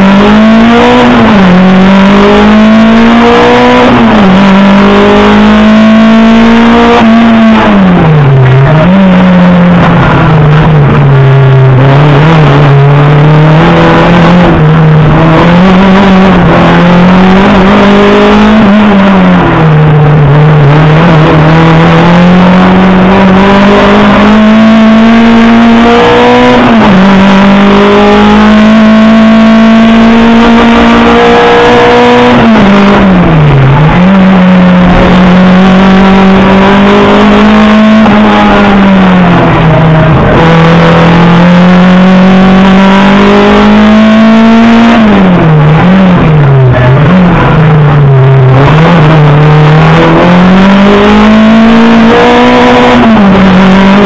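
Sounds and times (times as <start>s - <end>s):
car engine running hard: 0.0s - 54.0s
road noise: 0.0s - 54.0s.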